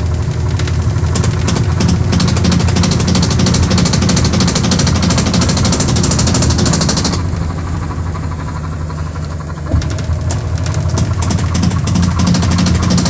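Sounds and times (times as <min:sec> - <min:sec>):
loud rapid rattling: 0:00.0 - 0:13.0
washing machine motor hum: 0:00.0 - 0:13.0.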